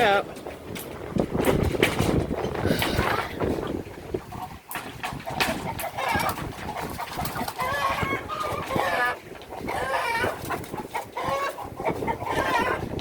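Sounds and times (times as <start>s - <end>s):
chickens squawking and clucking: 0.0s - 13.0s.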